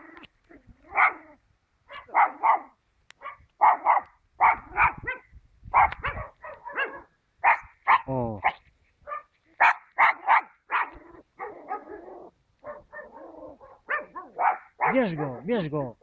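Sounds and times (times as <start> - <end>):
dog barking: 0.9 - 1.2, 1.9 - 15.5.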